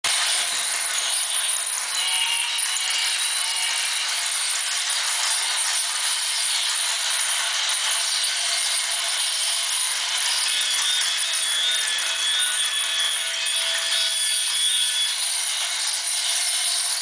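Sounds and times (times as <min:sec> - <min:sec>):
toy trains clattering on plastic track: 0:00.0 - 0:17.0.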